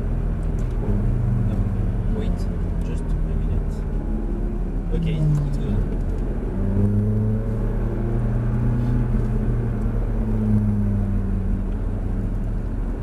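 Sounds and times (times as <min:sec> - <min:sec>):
car engine running: 0:00.0 - 0:13.0
road and wind noise: 0:00.0 - 0:13.0.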